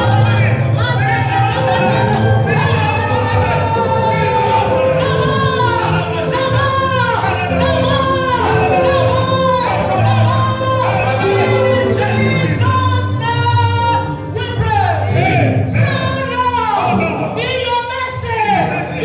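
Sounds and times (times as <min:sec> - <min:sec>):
strong bass: 0:00.0 - 0:15.9
worship song with band: 0:00.0 - 0:19.0.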